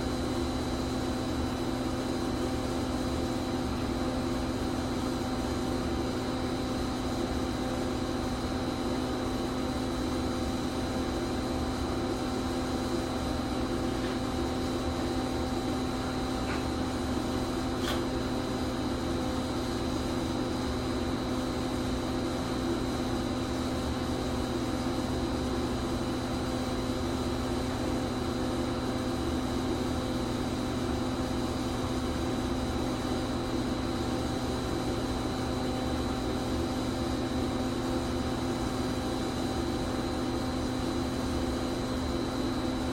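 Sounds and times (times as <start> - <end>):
machine electrical hum: 0.0 - 42.9.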